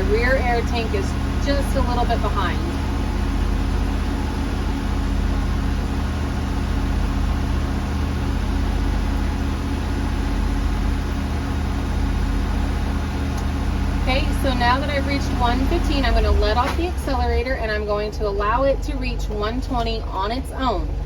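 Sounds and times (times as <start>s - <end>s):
bus engine at raised idle: 0.0s - 21.0s.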